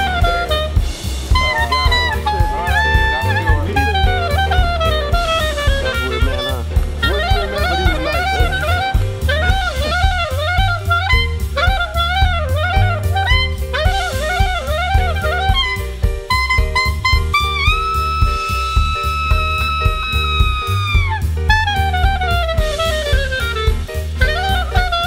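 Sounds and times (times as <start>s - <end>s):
instrumental music with drum beat: 0.0s - 25.0s.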